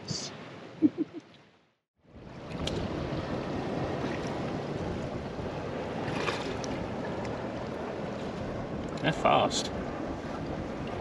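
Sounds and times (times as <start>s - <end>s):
sea surf rushing: 2.1s - 11.0s
wind on microphone: 2.1s - 11.0s.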